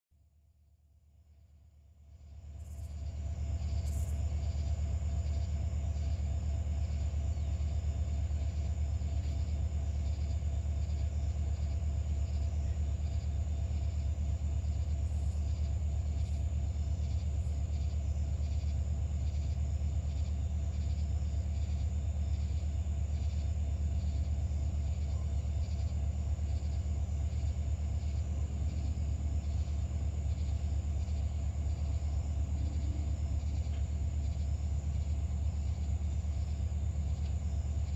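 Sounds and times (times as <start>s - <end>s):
faint steady whine: 0.3s - 37.9s
diesel locomotives idling: 2.4s - 37.9s.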